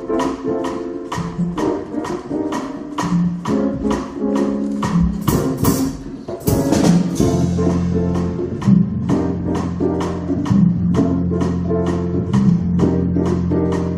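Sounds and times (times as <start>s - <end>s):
bass line: 1.1s - 13.9s.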